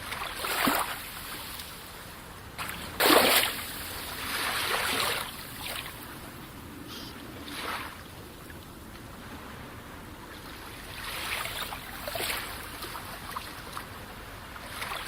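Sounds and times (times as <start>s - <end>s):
sea waves splashing: 0.0s - 15.0s.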